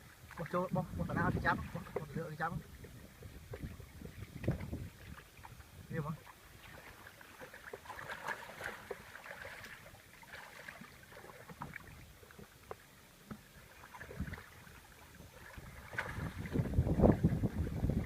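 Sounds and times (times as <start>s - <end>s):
small water splashes and drips: 0.0s - 18.0s.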